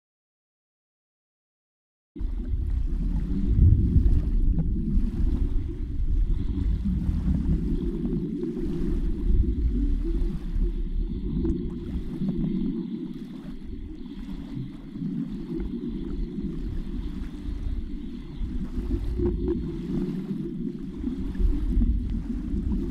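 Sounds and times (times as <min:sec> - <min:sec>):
muffled underwater water rumble: 0:02.2 - 0:22.9.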